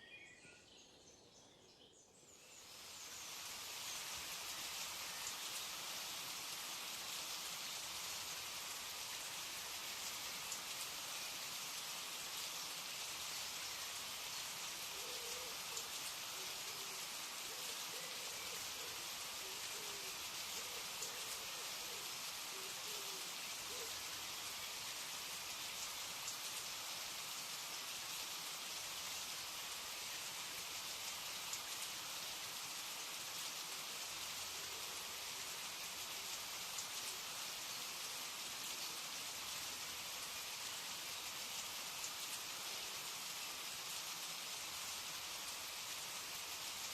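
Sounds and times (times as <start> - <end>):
steady rain patter: 2.2 - 46.9.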